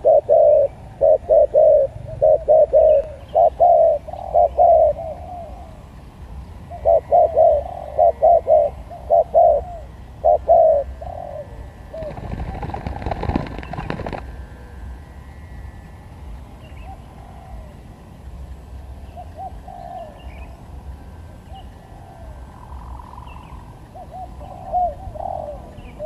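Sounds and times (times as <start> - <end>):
dove cooing: 0.0 - 14.7, 16.6 - 18.2, 19.0 - 26.0.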